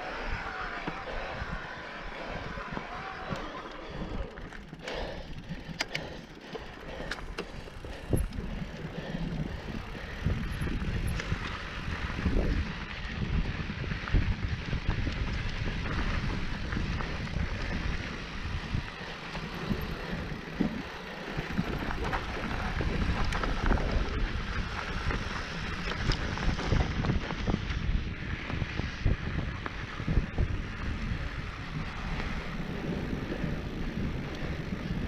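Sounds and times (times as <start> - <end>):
bike clicks and rattles: 0.0 - 35.0
bike tyre noise: 0.0 - 35.0
wind buffeting microphone: 0.0 - 35.0.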